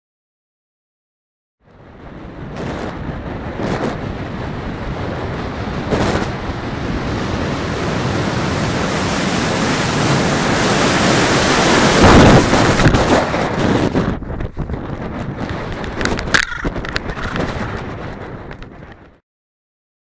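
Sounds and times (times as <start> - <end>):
wind rushing on microphone: 1.6 - 19.2.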